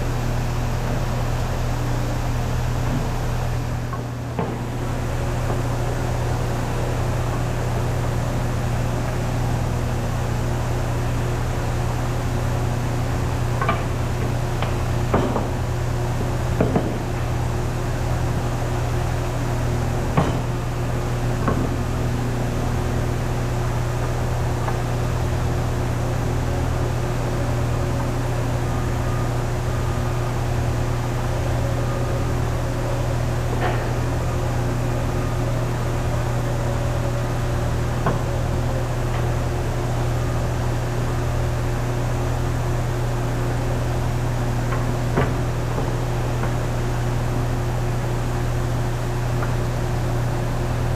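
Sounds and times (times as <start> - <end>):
machinery humming: 0.0 - 50.9.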